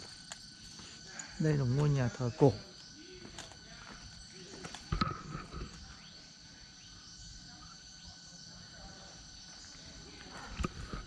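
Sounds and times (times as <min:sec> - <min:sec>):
faint chirps: 0:00.0 - 0:11.0
insect chorus droning: 0:00.0 - 0:11.0.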